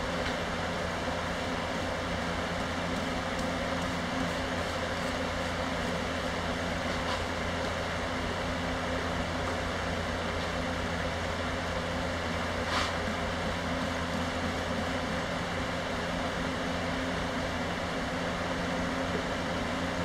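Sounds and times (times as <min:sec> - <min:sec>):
electric fan drone: 0:00.0 - 0:20.0.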